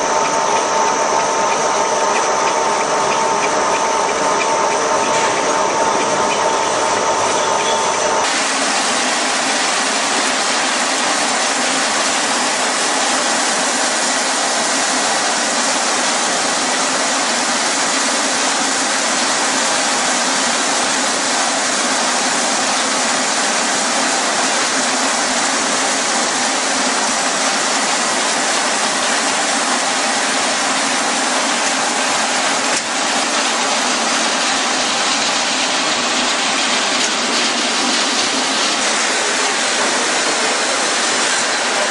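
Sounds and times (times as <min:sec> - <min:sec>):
machinery hissing: 0:00.0 - 0:41.9.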